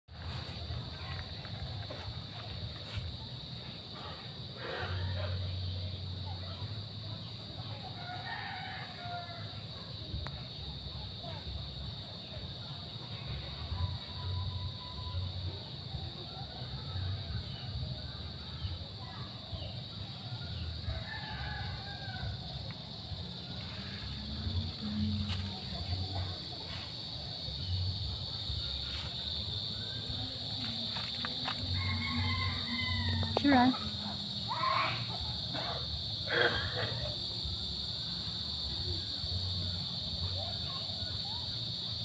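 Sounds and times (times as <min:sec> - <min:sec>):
high insect drone: 0:00.1 - 0:42.0.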